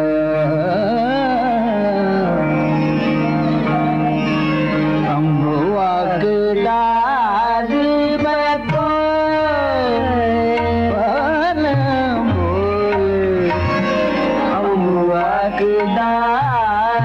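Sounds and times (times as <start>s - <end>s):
man singing gliding melody: 0.0s - 17.0s
tabla: 0.0s - 17.0s.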